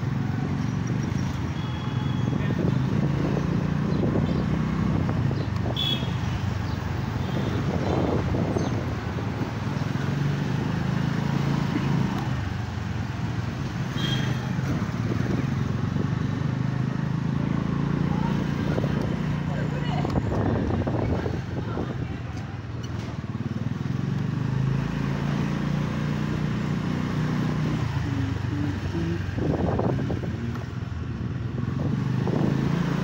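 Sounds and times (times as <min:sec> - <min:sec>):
road and wind noise: 0:00.0 - 0:33.0.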